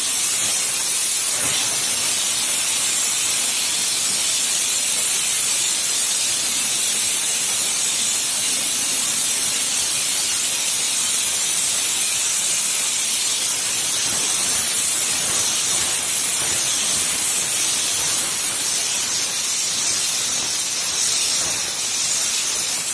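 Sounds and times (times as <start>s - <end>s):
spray gun hissing: 0.0s - 22.9s.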